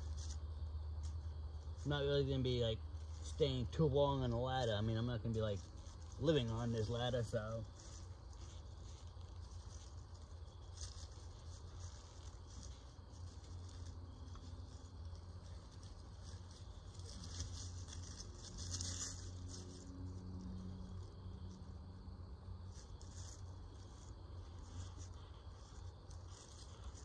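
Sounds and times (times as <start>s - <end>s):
dry leaves crackling: 0.0s - 27.0s
low steady hum: 0.0s - 27.0s
rope rustling and scraping: 0.0s - 27.0s.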